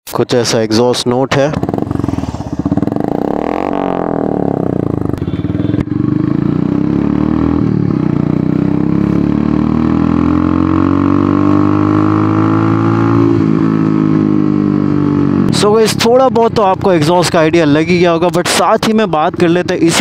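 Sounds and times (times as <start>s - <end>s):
motorcycle engine revving: 1.3s - 20.0s.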